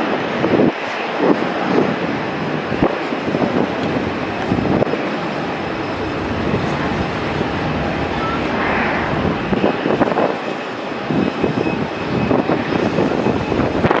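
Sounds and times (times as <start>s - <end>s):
jet engine rumble: 1.2s - 14.0s.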